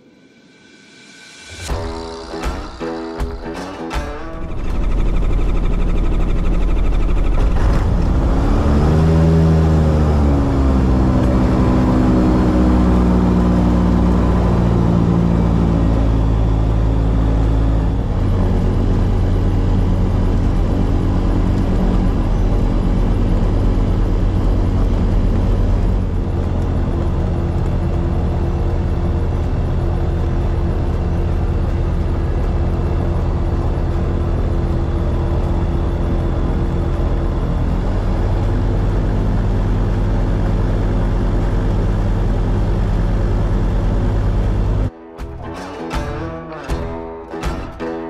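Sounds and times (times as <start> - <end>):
aircraft engine running: 0.0 - 48.0.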